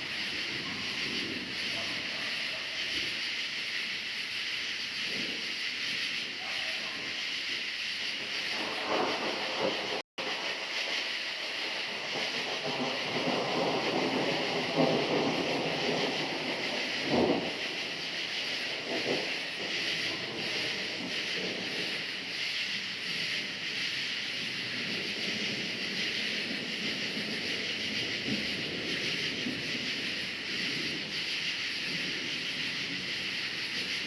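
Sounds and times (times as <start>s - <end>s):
distant thunder rumbling: 0.0s - 2.5s, 8.2s - 22.4s, 23.0s - 34.0s
crickets chirping: 0.0s - 34.0s.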